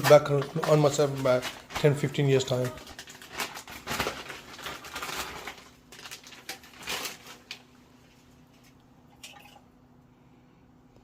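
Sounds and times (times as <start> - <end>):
rustling and crinkling: 0.0 - 8.9
faint steady hum: 0.0 - 11.0.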